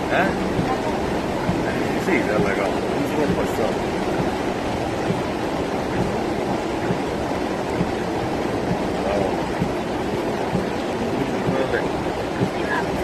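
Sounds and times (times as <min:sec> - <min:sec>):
rainwater rushing through street: 0:00.0 - 0:13.0.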